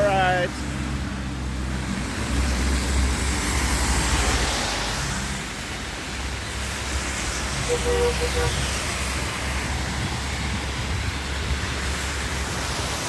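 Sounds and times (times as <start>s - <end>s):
car engine hum: 0.0s - 4.5s, 5.8s - 12.9s
heavy rain and tyre spray hiss: 0.0s - 13.0s.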